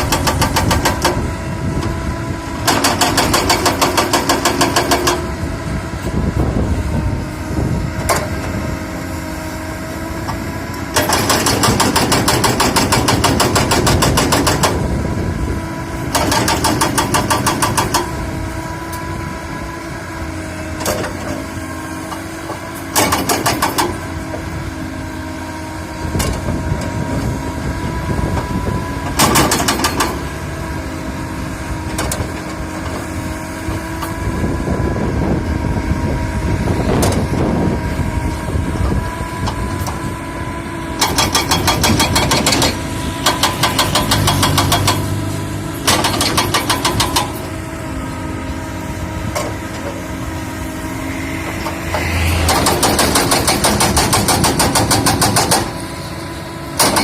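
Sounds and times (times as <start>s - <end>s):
excavator diesel engine running: 0.0s - 57.0s
hydraulic whine: 0.0s - 57.0s.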